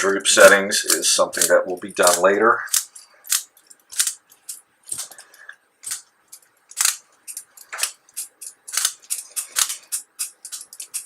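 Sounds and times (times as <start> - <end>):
small plastic parts clicking: 0.0 - 11.0.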